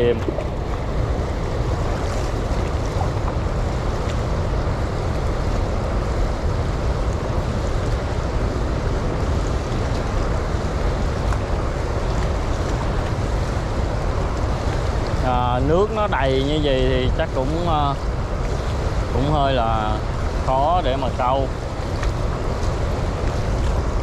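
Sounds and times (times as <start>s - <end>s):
rushing water at flood gates: 0.0s - 24.0s
waves: 0.0s - 24.0s
wind buffeting microphone: 0.0s - 24.0s.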